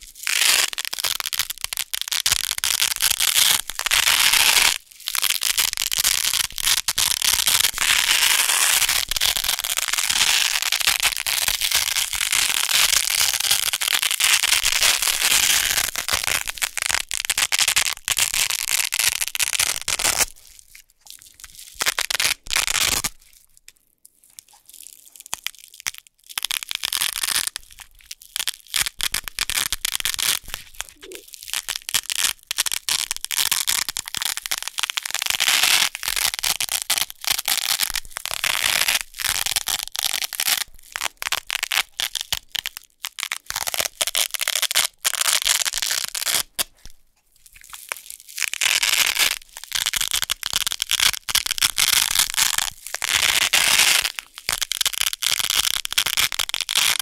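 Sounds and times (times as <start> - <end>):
velcro tape ripping: 0.0 - 4.8, 5.4 - 20.6, 21.5 - 23.2, 25.3 - 40.7, 41.3 - 46.8, 47.7 - 57.0.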